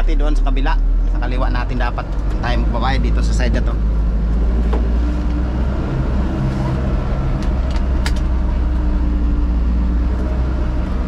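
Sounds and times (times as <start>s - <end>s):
road noise: 0.0s - 11.0s
truck diesel engine rumble: 0.0s - 11.0s.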